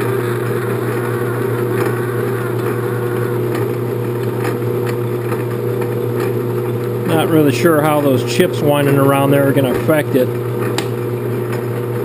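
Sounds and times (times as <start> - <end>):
lathe running with hum: 0.0 - 12.0.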